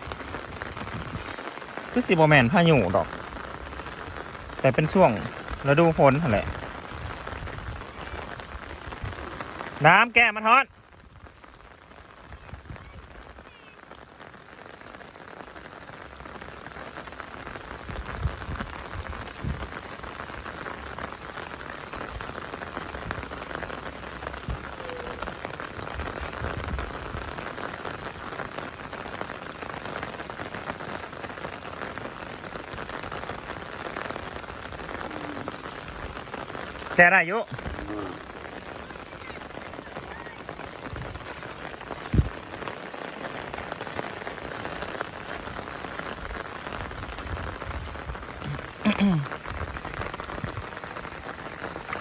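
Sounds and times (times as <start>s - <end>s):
heavy rain: 0.0s - 52.0s.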